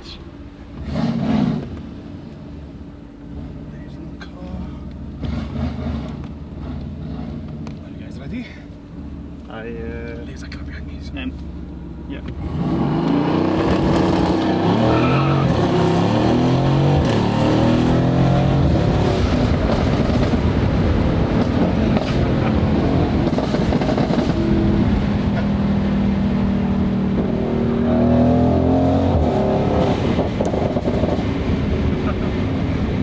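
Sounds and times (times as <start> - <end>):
car engine accelerating hard: 0.7 - 33.0.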